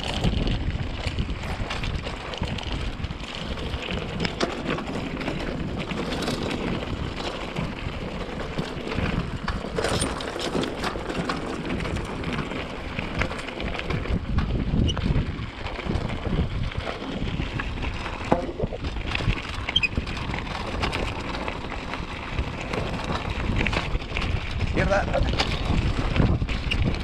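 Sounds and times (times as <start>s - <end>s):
bike clicks and clatters: 0.0s - 27.0s
wind buffeting microphone: 0.0s - 27.0s.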